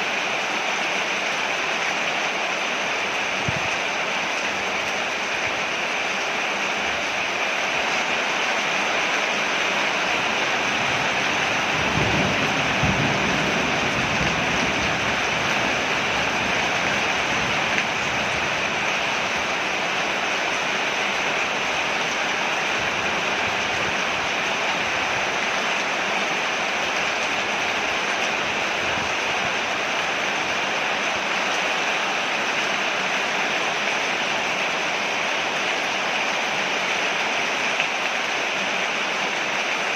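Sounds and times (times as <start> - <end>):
rain falling on a porch: 0.0 - 39.9.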